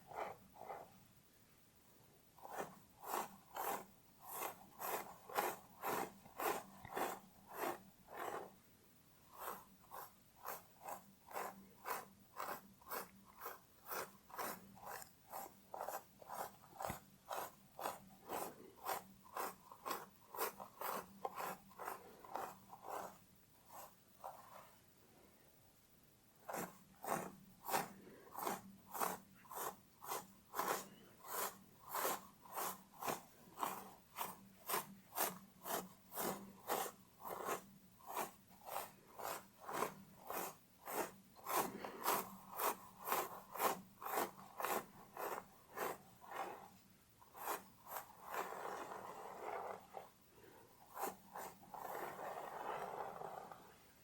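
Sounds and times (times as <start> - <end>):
fingernails scratching hair: 2.4 - 8.6, 9.3 - 24.8, 26.4 - 50.1, 50.8 - 53.7.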